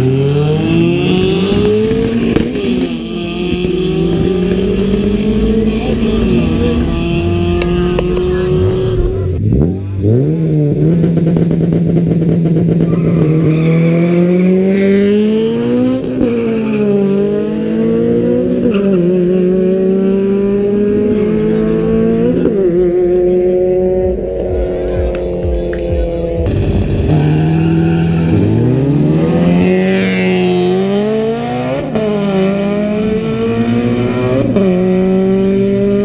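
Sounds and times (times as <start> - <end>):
race car engine accelerating: 0.0 - 36.0.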